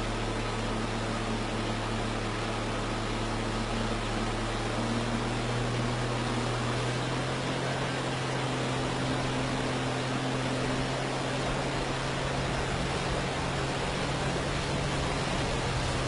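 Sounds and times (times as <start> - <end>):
constant rushing hiss: 0.0 - 16.0
vehicle engine humming: 0.0 - 16.0.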